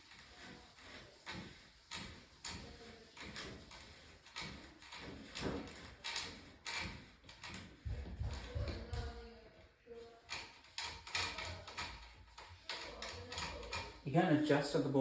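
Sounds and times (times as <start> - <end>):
wood scraping: 0.0 - 9.4, 10.2 - 15.0.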